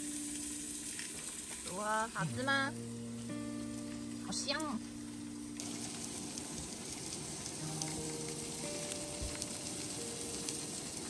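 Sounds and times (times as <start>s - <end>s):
pork sizzling on a grill pan: 0.0s - 11.0s.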